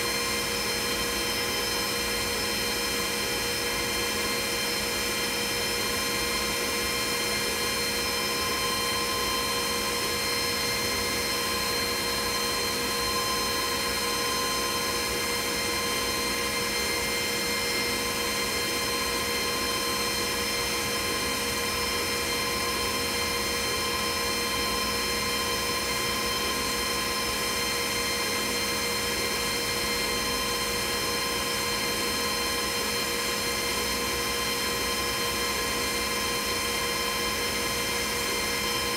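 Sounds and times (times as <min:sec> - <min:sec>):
laser cutter whirring: 0:00.0 - 0:38.9.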